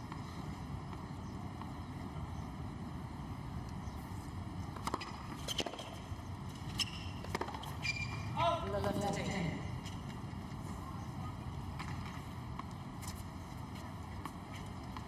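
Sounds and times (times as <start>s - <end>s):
stadium ambience rumble: 0.0s - 15.0s.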